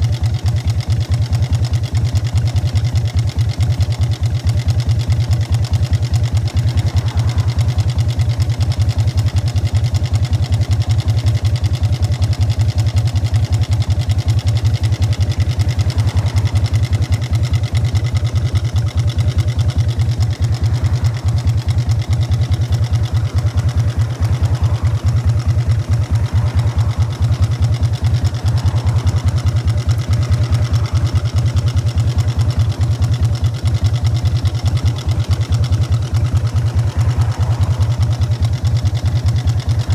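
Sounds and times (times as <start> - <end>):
motorcycle exhaust running steadily: 0.0 - 39.9.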